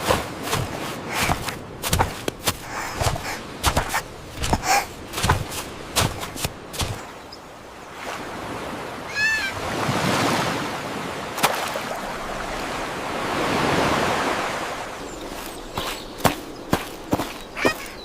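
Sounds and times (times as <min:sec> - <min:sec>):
waves washing: 0:00.0 - 0:18.0.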